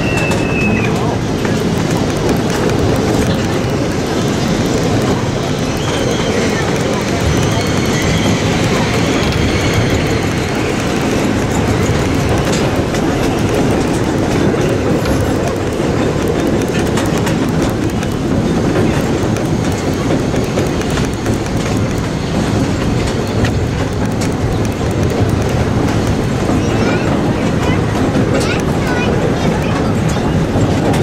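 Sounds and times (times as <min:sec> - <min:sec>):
small train rumbling: 0:00.0 - 0:31.0
wheel clicks on rails: 0:00.0 - 0:31.0.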